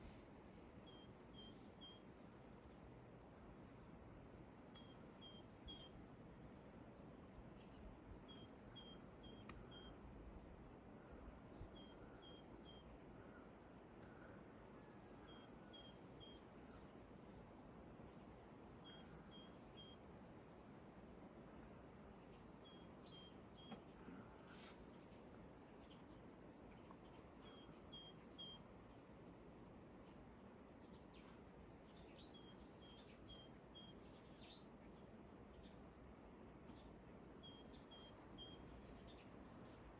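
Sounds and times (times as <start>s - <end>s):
high-pitched insect chorus: 0.0s - 29.8s, 30.7s - 39.9s.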